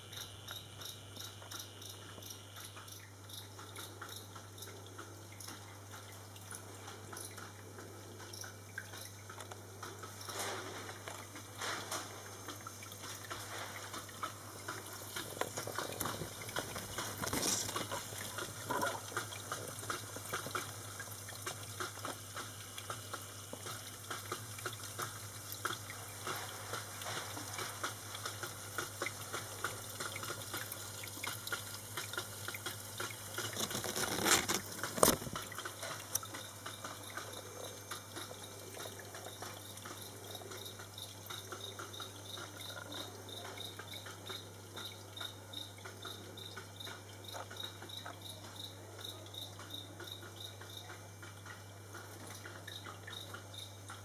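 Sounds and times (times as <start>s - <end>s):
water trickling and dripping: 0.0s - 54.0s.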